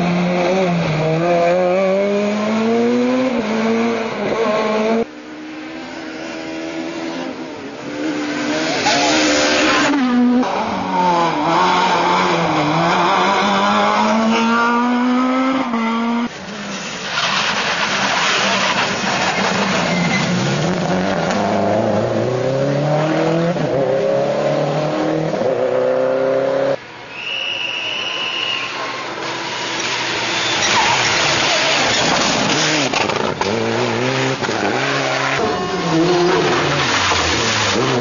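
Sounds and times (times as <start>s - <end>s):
rally car engine revving: 0.0s - 26.8s, 28.9s - 38.0s.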